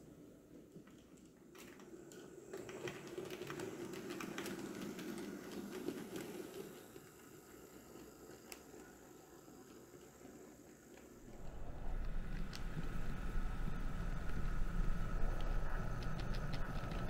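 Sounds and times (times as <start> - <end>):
model train wheels clicking on rails: 0.0 - 17.0.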